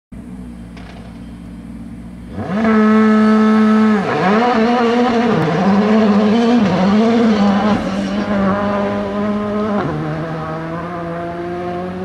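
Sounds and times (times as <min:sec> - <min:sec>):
rally car engine revving: 0:02.2 - 0:12.0.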